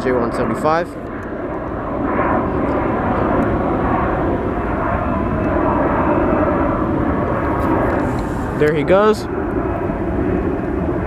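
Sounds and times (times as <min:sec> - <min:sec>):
jet engines at takeoff: 0:00.0 - 0:11.0.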